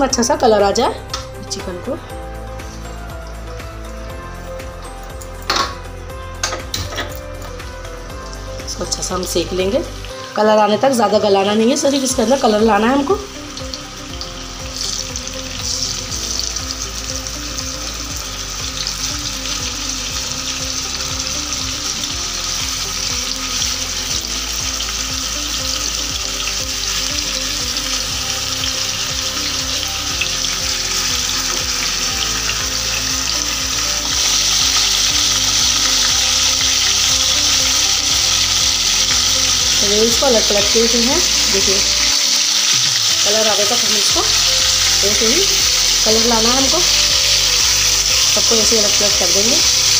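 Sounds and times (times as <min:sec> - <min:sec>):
chicken sizzling in hot oil: 0:00.0 - 0:49.9.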